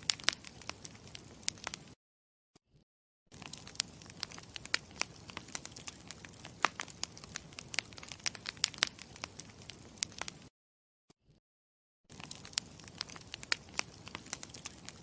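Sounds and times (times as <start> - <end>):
campfire crackling and popping: 0.0 - 2.0, 3.3 - 10.5, 12.1 - 15.0.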